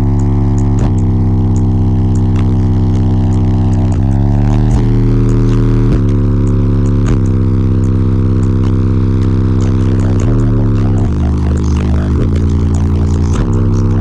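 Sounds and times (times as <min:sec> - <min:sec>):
loud deep bass notes: 0:00.0 - 0:14.0.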